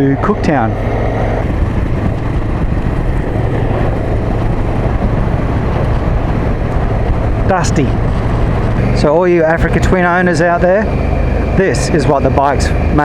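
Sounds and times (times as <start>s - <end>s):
motorcycle engine hum: 0.0s - 13.0s
wind and road noise: 0.0s - 13.0s.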